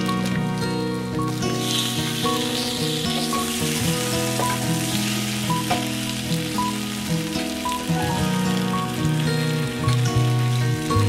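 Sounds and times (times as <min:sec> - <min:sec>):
instrumental music: 0:00.0 - 0:11.0
meat sizzling on grill: 0:00.0 - 0:11.0.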